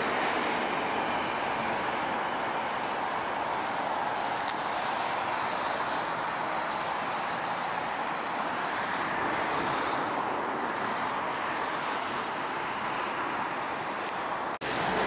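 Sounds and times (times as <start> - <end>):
traffic crossing a bridge: 0.0 - 15.0.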